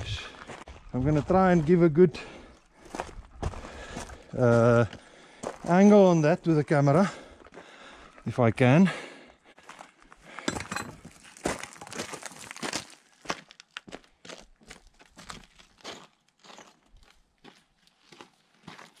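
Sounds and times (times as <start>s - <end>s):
footsteps crunching on gravel: 0.0s - 6.2s, 9.6s - 19.0s.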